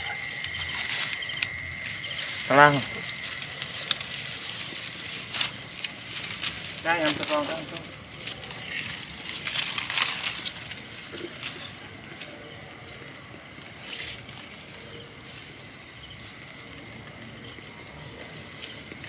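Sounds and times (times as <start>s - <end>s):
grass rustling underfoot: 0.0s - 19.0s
night insects chirring: 0.0s - 19.0s.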